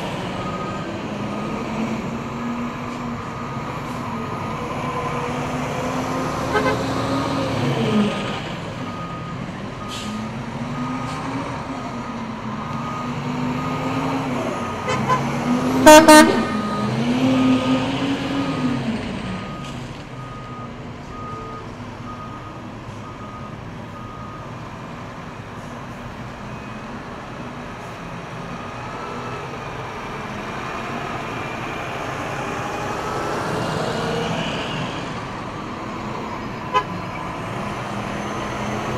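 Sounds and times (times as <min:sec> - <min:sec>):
diesel garbage trucks running: 0:00.0 - 0:38.9.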